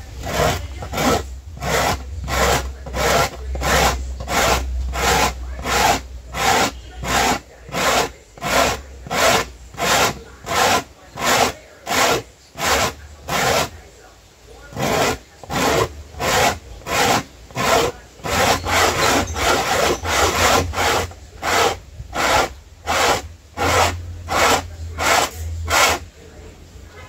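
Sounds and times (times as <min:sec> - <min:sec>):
corn rasping on metal grater: 0:00.0 - 0:13.9, 0:14.6 - 0:26.1.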